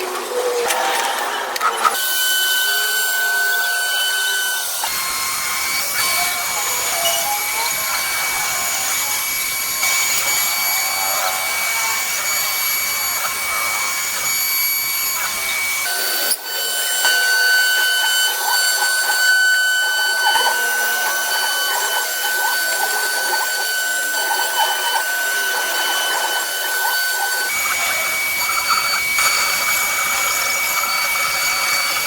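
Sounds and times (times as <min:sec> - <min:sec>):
cnc router high-pitched whine: 0:00.0 - 0:32.0.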